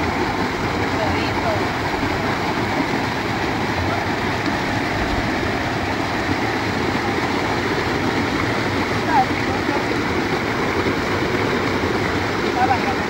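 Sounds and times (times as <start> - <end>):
stream rushing over cascade: 0.0 - 13.0.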